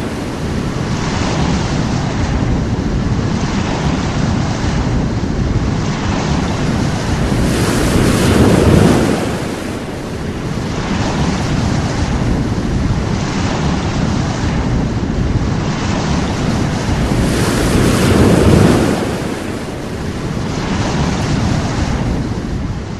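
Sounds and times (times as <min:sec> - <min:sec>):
sea waves breaking on shore: 0:00.0 - 0:22.9.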